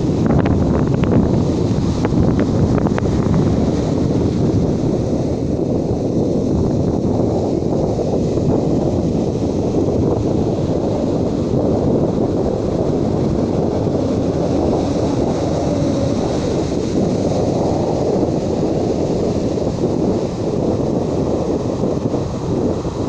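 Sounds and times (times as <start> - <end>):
waves breaking on beach: 0.0 - 23.0
wind buffeting microphone: 0.0 - 23.0.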